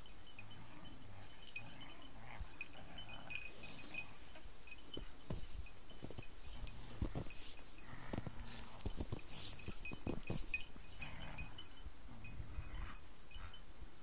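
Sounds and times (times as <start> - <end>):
small bells tinkling: 0.0 - 14.0.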